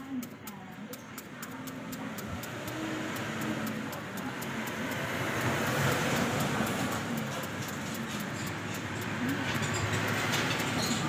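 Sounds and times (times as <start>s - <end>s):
knife striking apple: 0.0s - 10.7s
vehicle passing: 1.8s - 11.0s.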